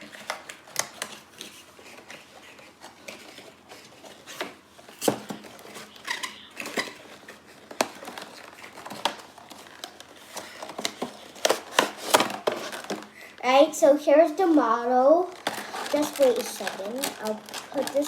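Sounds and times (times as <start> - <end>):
packaging being opened: 0.0 - 13.2, 15.2 - 18.0
rustling: 0.0 - 18.0.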